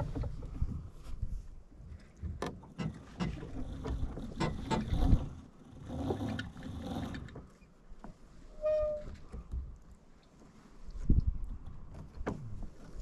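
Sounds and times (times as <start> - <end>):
water lapping against hull: 1.9 - 13.0.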